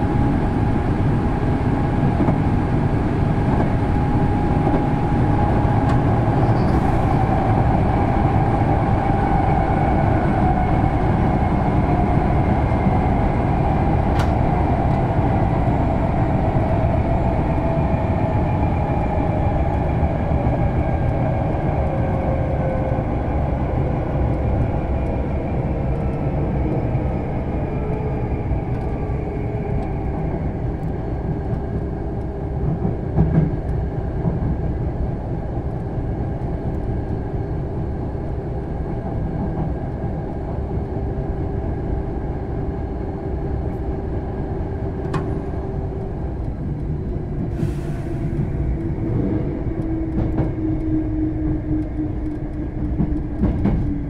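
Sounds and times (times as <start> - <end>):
rumble of train wheels on track: 0.0 - 54.0
train drive whine: 0.0 - 54.0.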